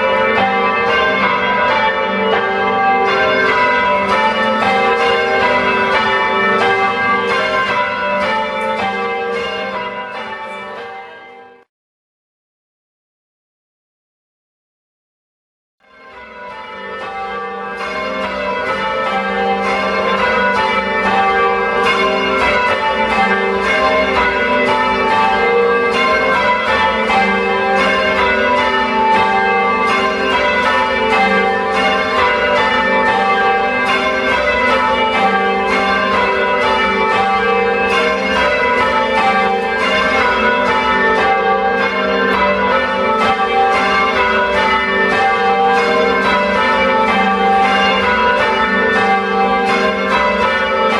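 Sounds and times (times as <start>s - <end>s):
church bells change ringing: 0.0s - 11.7s, 15.8s - 50.9s.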